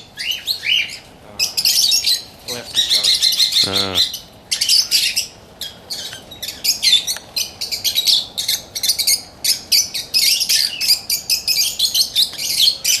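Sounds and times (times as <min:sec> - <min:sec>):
parakeets chirping: 0:00.0 - 0:13.0.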